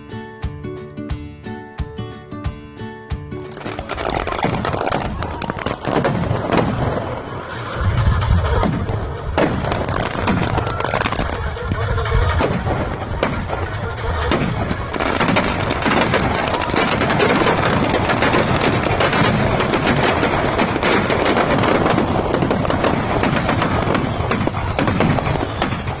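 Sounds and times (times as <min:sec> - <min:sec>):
firecrackers crackling: 0:03.4 - 0:26.0.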